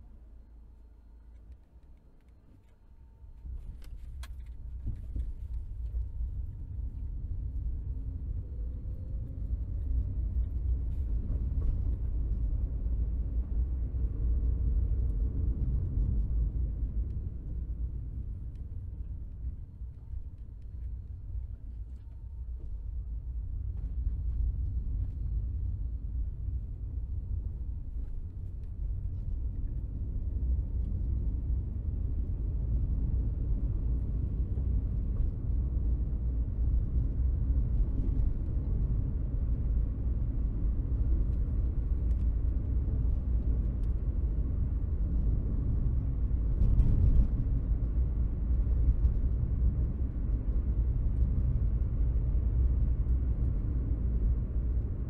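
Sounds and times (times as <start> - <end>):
car engine rumble: 0.0 - 55.0
road noise inside car: 0.0 - 55.0.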